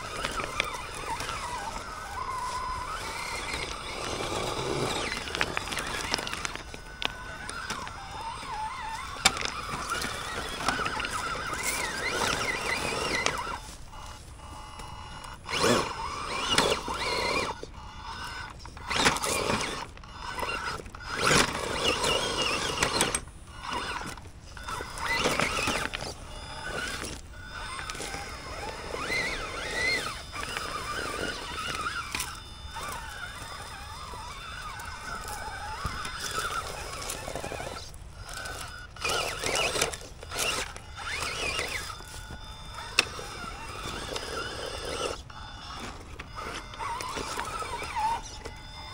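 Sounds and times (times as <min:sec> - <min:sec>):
electric motor and gears whining: 0:00.0 - 0:48.9.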